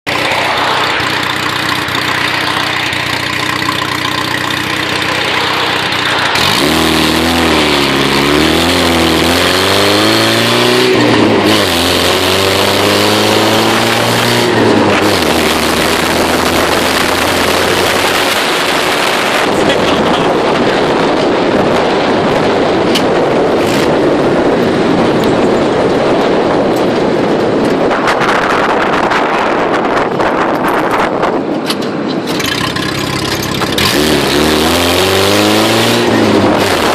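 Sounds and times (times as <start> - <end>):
steady rushing noise: 0.0 - 36.9
car engine revving: 0.1 - 26.0, 32.3 - 36.9.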